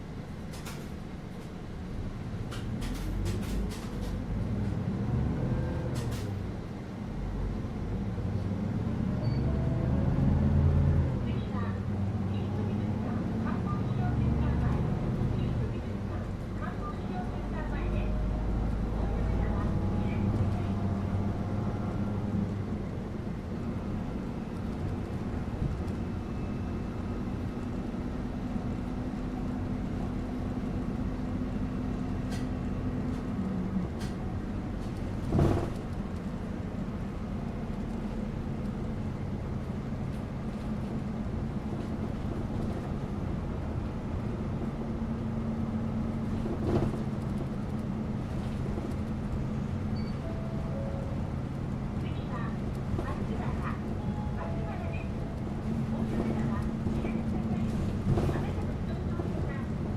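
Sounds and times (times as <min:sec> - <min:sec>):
bus engine hum: 0:00.0 - 0:59.9
road rumble: 0:00.0 - 0:59.9.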